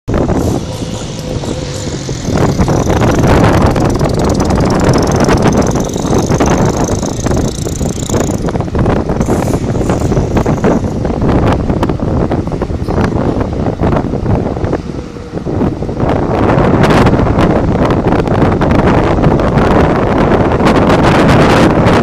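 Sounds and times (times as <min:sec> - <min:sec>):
wind buffeting microphone: 0:00.1 - 0:22.0.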